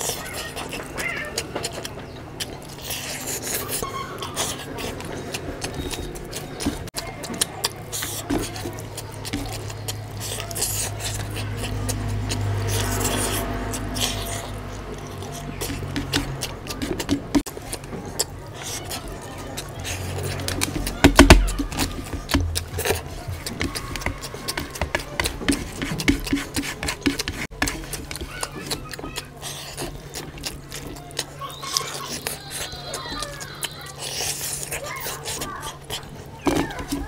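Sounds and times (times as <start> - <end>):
chewing with lip smacking: 0.0 - 37.0
fingers squishing rice: 0.0 - 37.0.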